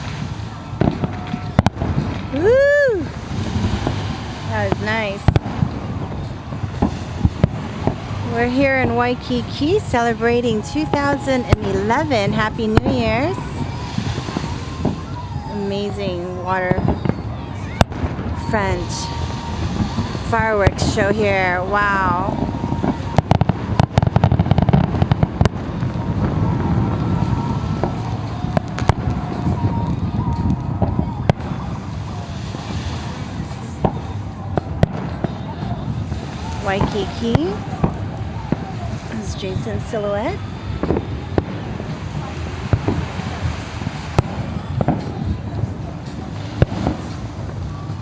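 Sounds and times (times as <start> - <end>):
fireworks bangs and crackles: 0.0 - 48.0
low rumbling wash: 0.0 - 48.0.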